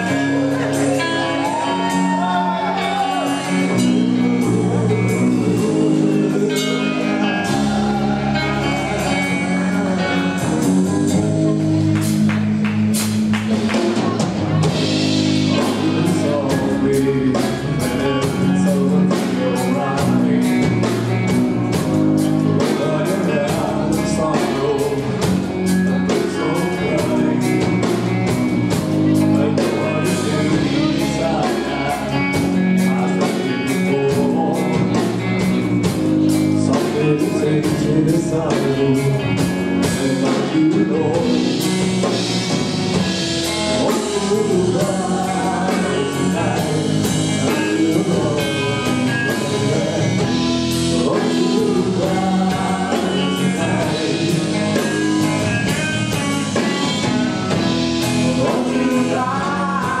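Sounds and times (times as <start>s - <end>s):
male singer: 0.0s - 12.3s, 13.5s - 42.3s, 43.0s - 60.0s
live rock band playing: 0.0s - 60.0s.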